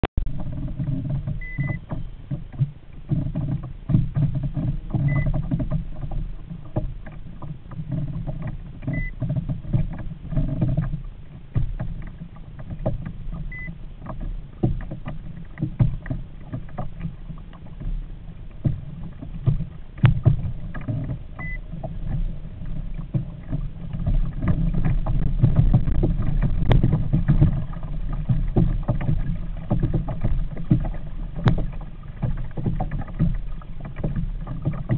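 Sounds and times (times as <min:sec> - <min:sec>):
continuous low rumble: 0:00.2 - 0:34.9.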